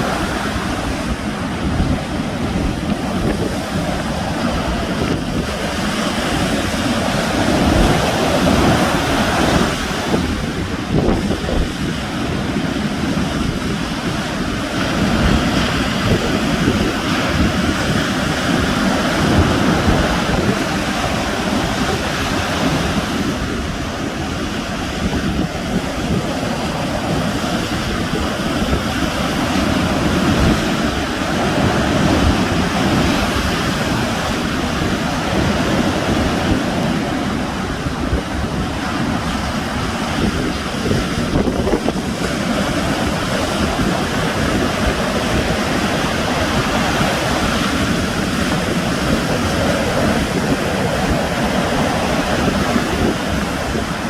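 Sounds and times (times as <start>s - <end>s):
sea waves breaking on shore: 0.0s - 54.0s
wind buffeting microphone: 0.0s - 54.0s.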